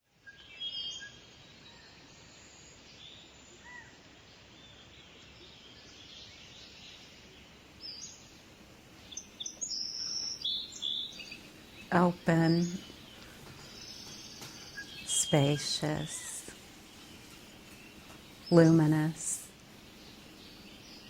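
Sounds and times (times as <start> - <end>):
faint steady hiss: 0.1 - 21.0
birds chirping: 0.4 - 21.0.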